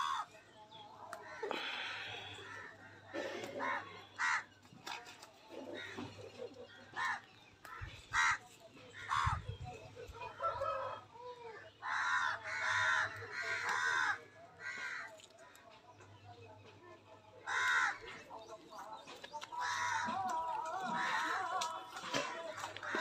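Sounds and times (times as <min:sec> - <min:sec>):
birds harsh calls: 0:00.0 - 0:16.1, 0:17.4 - 0:23.0.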